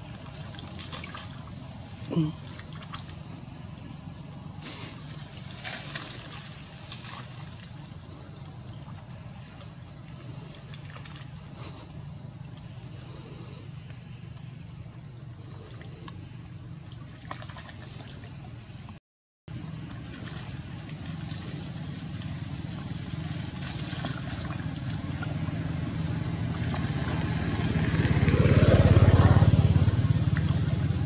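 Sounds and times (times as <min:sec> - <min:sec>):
vehicle engine rumble passing: 0:00.0 - 0:18.5, 0:19.6 - 0:31.0.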